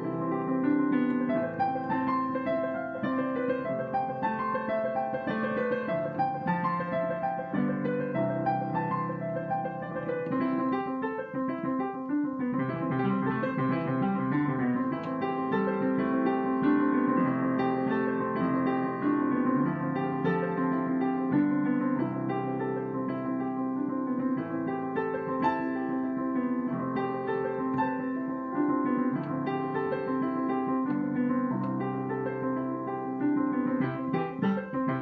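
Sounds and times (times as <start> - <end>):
solo piano: 0.0 - 35.0.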